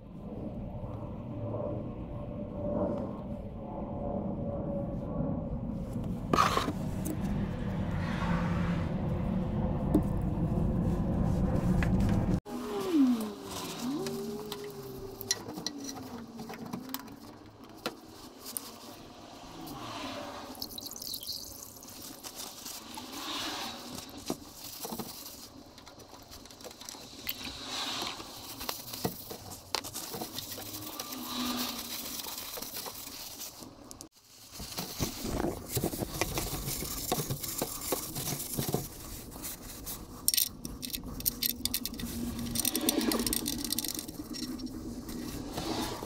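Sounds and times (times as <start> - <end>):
rustling and scraping of parts: 5.8 - 7.6, 9.9 - 46.0.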